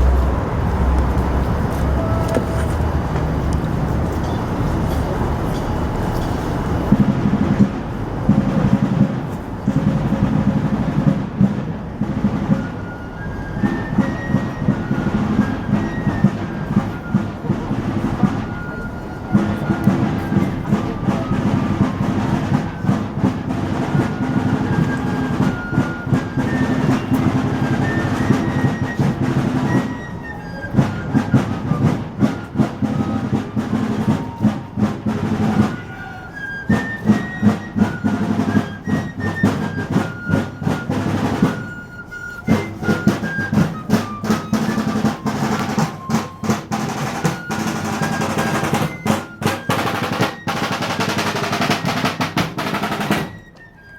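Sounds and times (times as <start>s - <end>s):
snare drums beating and rolling: 6.7s - 53.9s.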